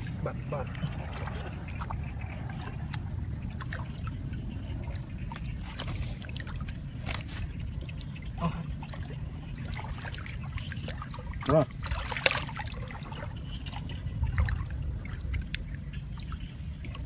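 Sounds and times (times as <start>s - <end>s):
steady low rumble: 0.0s - 17.0s
water trickling: 0.0s - 17.0s.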